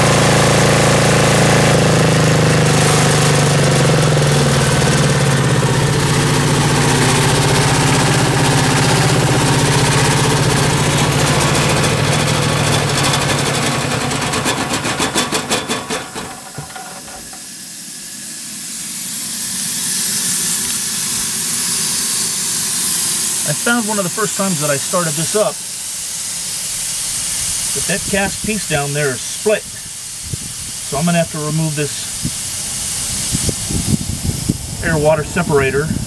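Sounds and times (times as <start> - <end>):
compressor diesel engine running: 0.0 - 36.0
hiss: 2.7 - 36.0.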